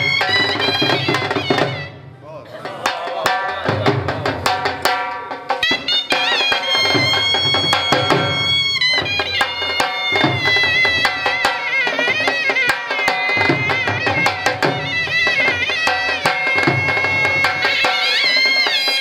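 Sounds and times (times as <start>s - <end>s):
shehnai melody: 0.0s - 2.2s, 5.5s - 19.0s
dhol drum beats: 0.0s - 19.0s.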